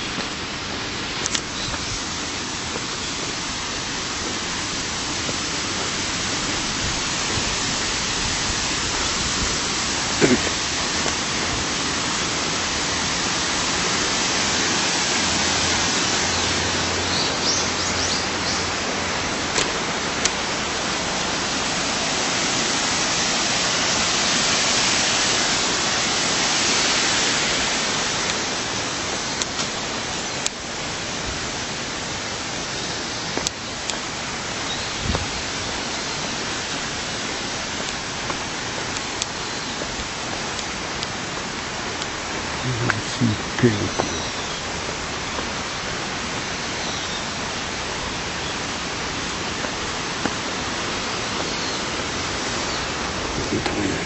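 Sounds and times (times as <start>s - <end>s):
water cascading: 0.0s - 54.0s.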